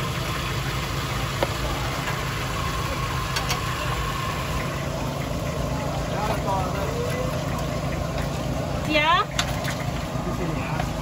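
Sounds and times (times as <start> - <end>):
low engine rumble: 0.0 - 11.0
market hubbub: 0.0 - 11.0.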